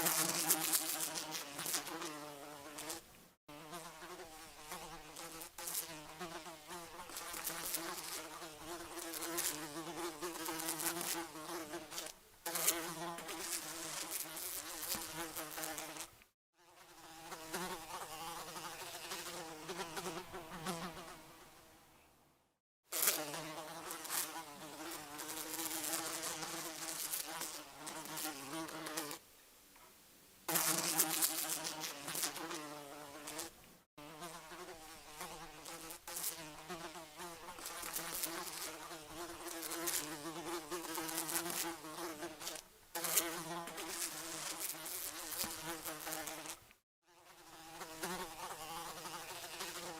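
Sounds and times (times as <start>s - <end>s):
housefly buzzing in flight: 0.0s - 21.4s, 22.9s - 29.2s, 30.5s - 49.9s.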